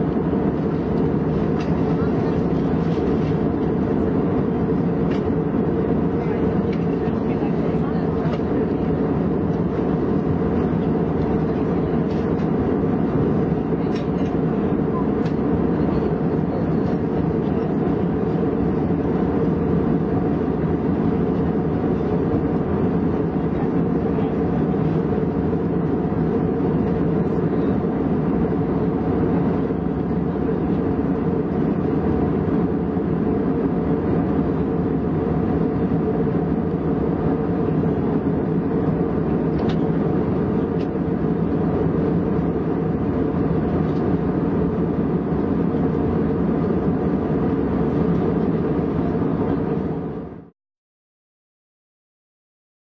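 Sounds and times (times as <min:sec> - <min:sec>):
jet engines drone: 0:00.0 - 0:50.5.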